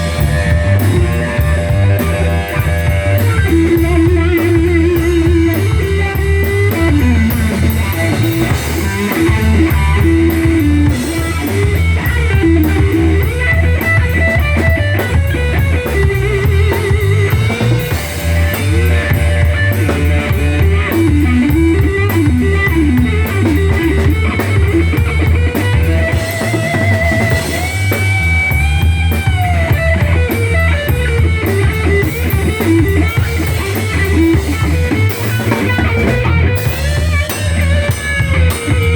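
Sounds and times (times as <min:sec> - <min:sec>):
deep bass: 0:00.0 - 0:38.9
drum kit beat: 0:00.0 - 0:38.9
electric guitar with bent notes: 0:00.0 - 0:38.9.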